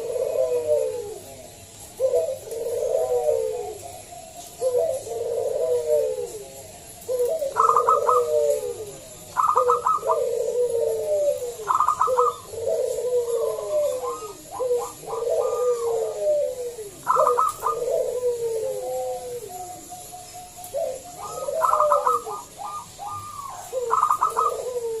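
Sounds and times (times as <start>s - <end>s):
dove singing: 0.0s - 25.0s.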